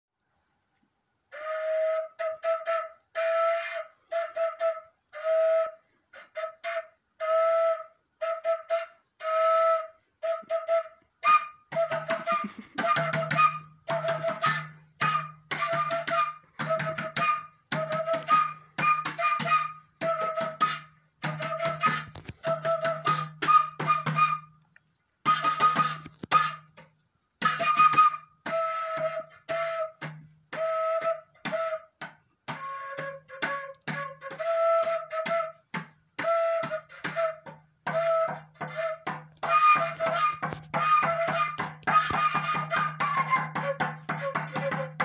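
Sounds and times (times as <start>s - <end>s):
breathy wooden flute notes: 1.3s - 45.0s.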